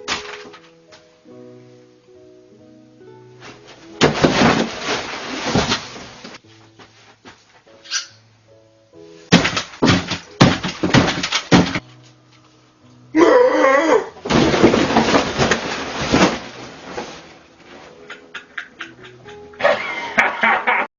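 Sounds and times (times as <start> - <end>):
quiet background music: 0.0 - 20.9.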